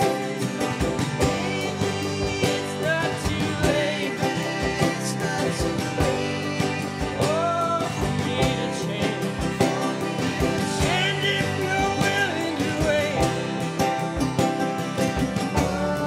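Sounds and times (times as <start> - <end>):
man singing: 0.0 - 14.1, 15.4 - 16.0
drums beat: 0.0 - 16.0
resonator steel guitar sliding: 0.0 - 16.0
strummed acoustic guitar: 0.0 - 16.0.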